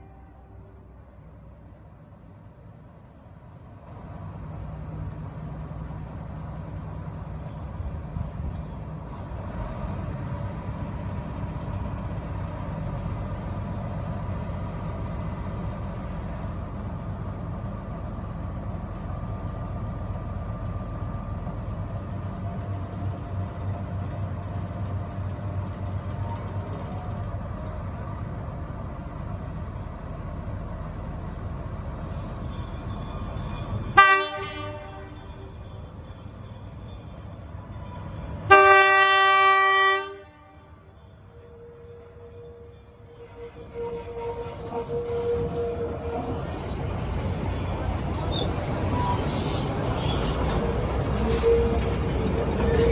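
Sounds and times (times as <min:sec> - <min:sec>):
diesel locomotive engine running: 0:00.0 - 0:52.9.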